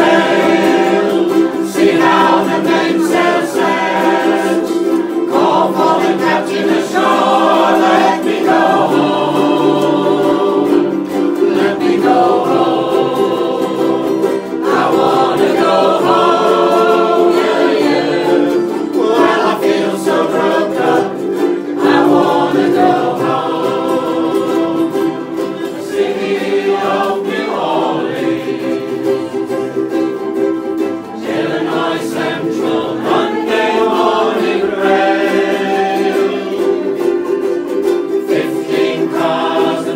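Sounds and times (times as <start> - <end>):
men and women singing in chorus: 0.0 - 30.1, 30.9 - 37.3, 37.9 - 39.9
ukuleles strumming: 0.0 - 39.9.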